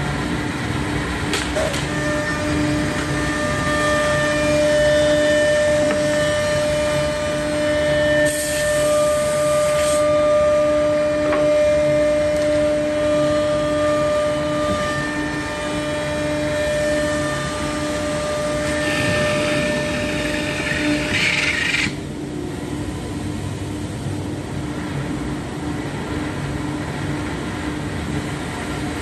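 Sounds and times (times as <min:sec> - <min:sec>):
pulsing machine hum: 0:00.0 - 0:29.0
spindle whine: 0:00.1 - 0:26.8.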